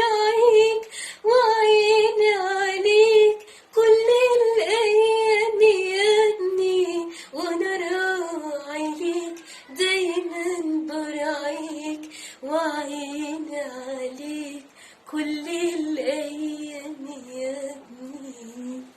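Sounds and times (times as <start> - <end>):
woman singing a hymn: 0.0 - 18.9.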